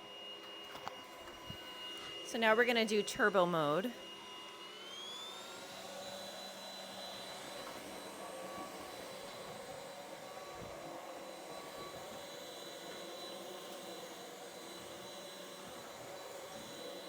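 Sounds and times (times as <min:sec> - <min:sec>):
vacuum cleaner motor whine: 0:00.0 - 0:17.0.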